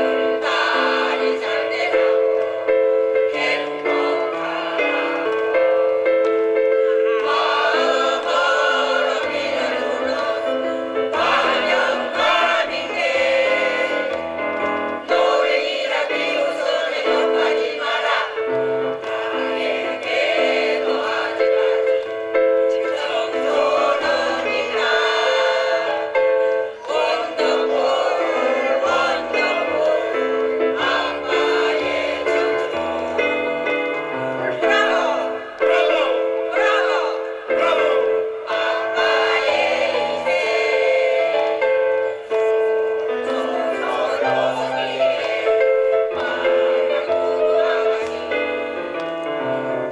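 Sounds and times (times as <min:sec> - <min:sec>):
mixed choir singing: 0:00.0 - 0:49.9.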